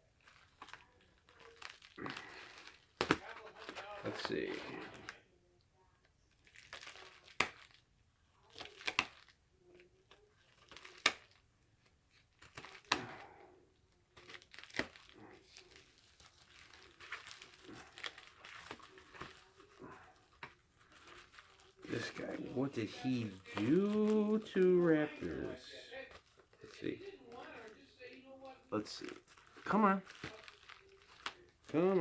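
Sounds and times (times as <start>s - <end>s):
packaging crinkling and tearing: 0.1s - 5.2s, 6.4s - 32.0s.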